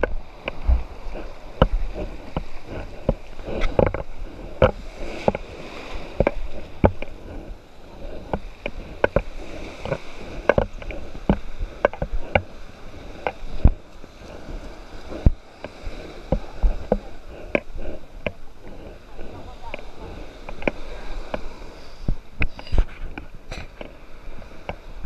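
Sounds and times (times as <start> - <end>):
scuba gear knocking: 0.0 - 24.8
surf wash: 0.0 - 25.0.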